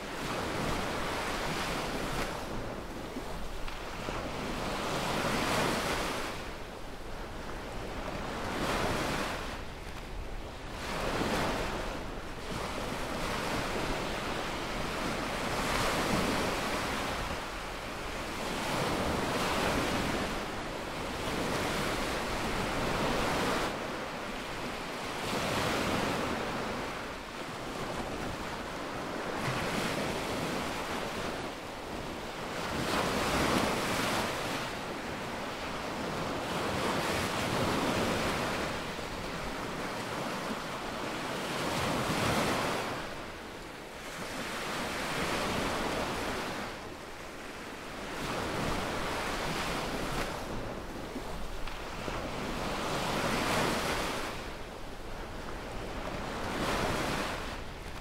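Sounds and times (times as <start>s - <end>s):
small waves breaking on beach: 0.0s - 58.0s
wind rumble on microphone: 0.0s - 58.0s.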